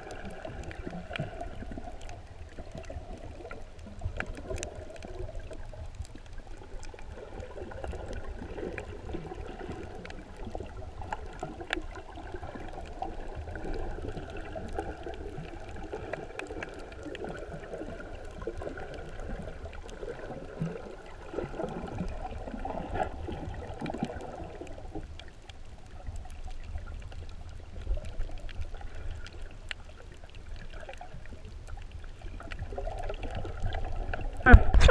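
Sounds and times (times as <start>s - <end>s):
faint clicks: 0.0s - 8.9s, 9.7s - 20.8s, 23.8s - 34.3s
muffled underwater rumble: 0.0s - 34.9s
water gurgling and sloshing: 0.0s - 34.9s.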